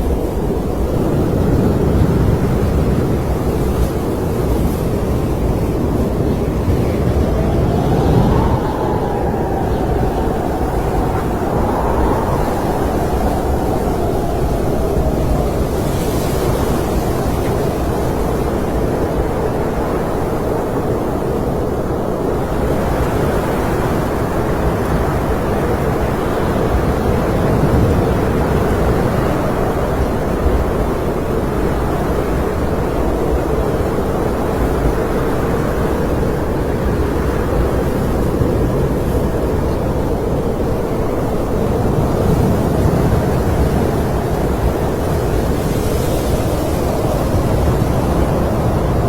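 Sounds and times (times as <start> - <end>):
snowstorm wind blowing: 0.0 - 49.0.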